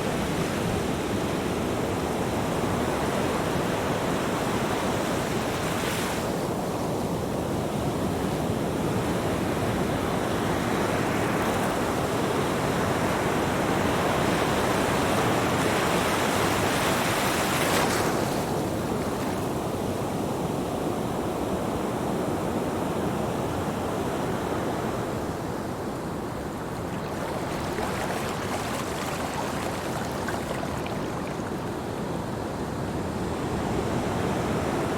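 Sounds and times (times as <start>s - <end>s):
ocean surf washing onto beach: 0.4s - 34.9s.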